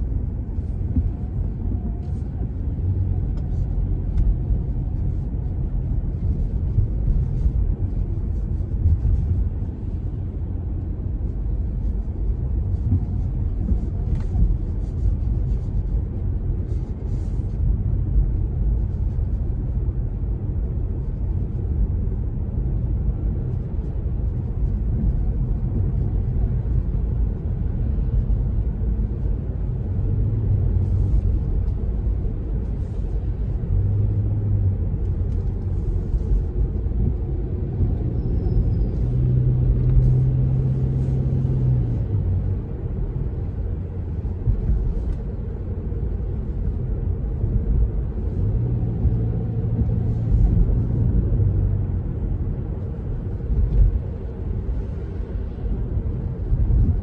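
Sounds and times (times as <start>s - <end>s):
car engine and tyres rumbling: 0.0s - 57.0s
low engine hum: 0.0s - 57.0s.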